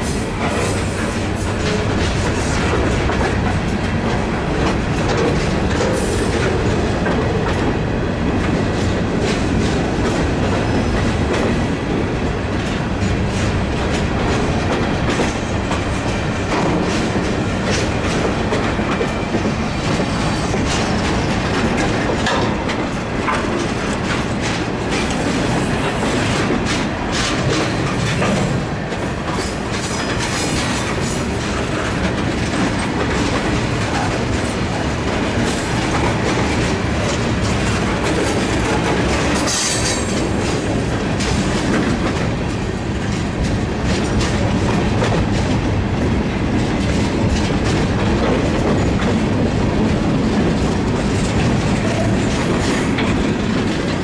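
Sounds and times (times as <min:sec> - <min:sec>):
clickety-clack over rail joints: 0:00.0 - 0:54.0
steel wheels rumbling on rail: 0:00.0 - 0:54.0.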